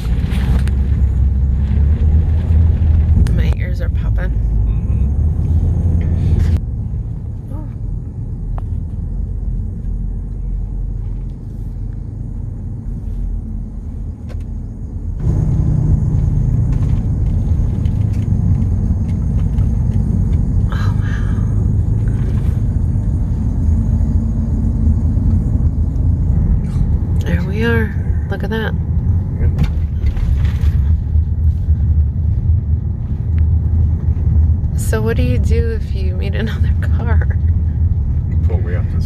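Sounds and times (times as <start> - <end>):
car interior rumble: 0.0 - 39.0.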